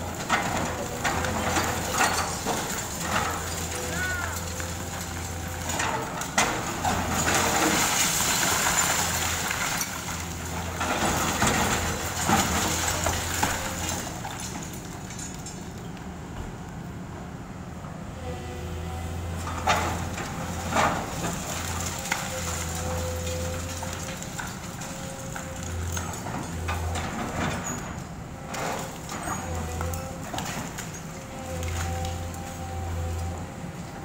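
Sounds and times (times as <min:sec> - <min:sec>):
debris cracking and falling: 0:00.0 - 0:15.8, 0:19.5 - 0:33.4
diesel engine humming: 0:00.0 - 0:34.0.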